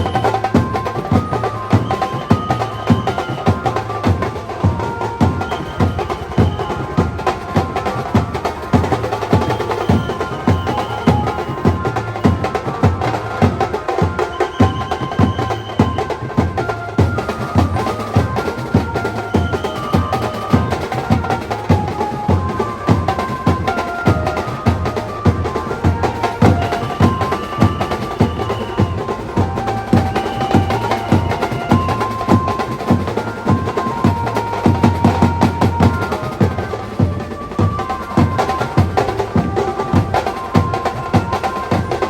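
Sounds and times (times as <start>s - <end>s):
fast drum beat: 0.0s - 42.0s.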